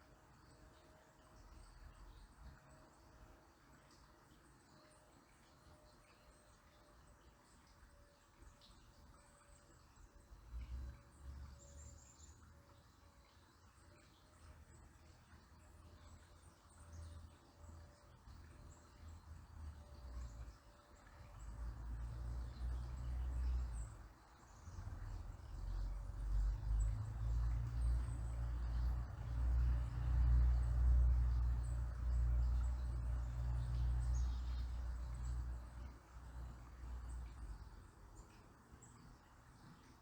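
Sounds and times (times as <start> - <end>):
river babbling: 6.5 - 40.0.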